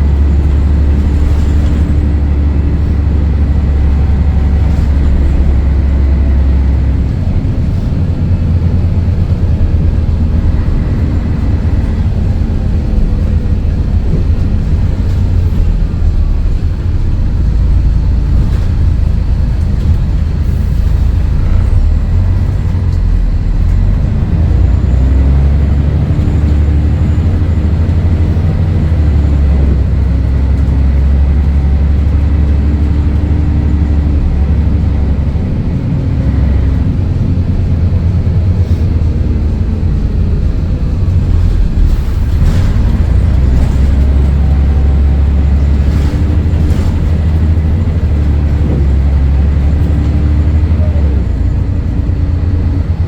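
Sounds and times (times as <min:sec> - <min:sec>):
bus diesel engine droning: 0:00.0 - 0:53.0.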